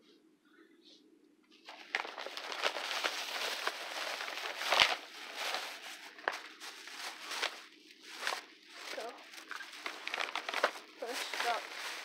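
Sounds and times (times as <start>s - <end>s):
plastic bag rustling: 1.6s - 12.0s.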